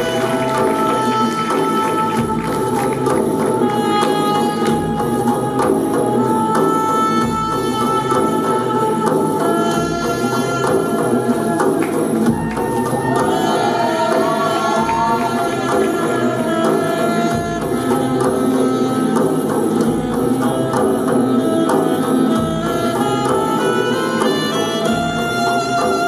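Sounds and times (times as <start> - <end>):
hand drums and percussion music: 0.0 - 26.0
slow deep drum beat: 0.0 - 26.0.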